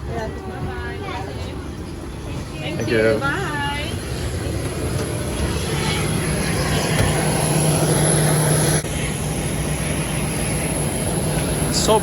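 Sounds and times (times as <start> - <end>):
jet airliner noise: 0.0 - 12.0.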